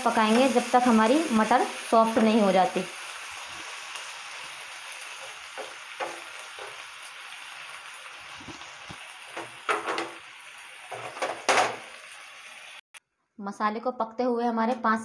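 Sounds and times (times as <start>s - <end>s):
food sizzling in a frying pan: 0.0s - 12.8s.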